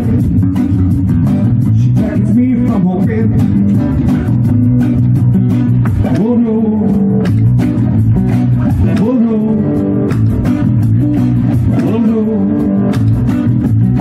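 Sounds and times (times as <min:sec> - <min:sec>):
acoustic bass guitar: 0:00.0 - 0:14.0
acoustic guitars strumming: 0:00.0 - 0:14.0.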